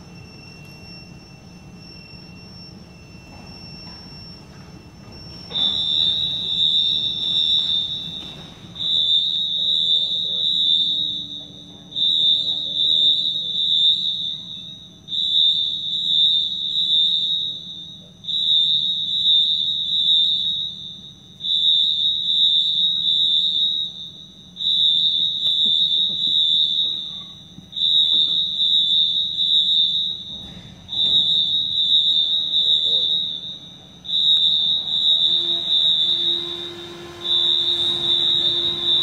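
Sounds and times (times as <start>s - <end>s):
electronic alarm blasts: 0.0s - 39.0s.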